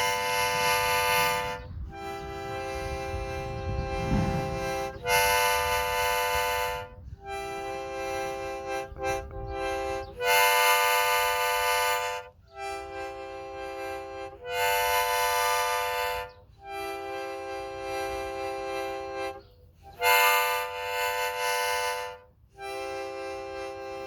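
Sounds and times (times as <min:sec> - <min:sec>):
harmonica chords: 0:00.0 - 0:24.0.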